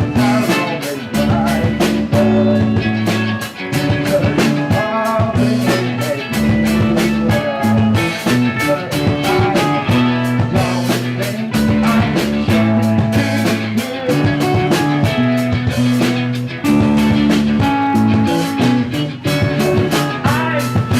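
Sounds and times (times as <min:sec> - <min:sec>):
electric guitar lines: 0:00.0 - 0:20.9
held bass notes: 0:00.0 - 0:20.9
steady drum beat: 0:00.0 - 0:20.9.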